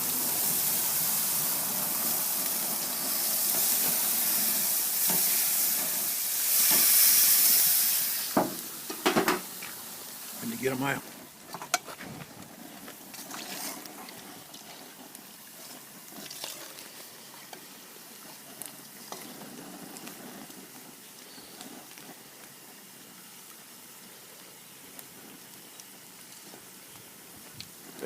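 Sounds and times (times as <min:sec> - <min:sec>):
oil sizzling and bubbling: 0:00.0 - 0:28.0.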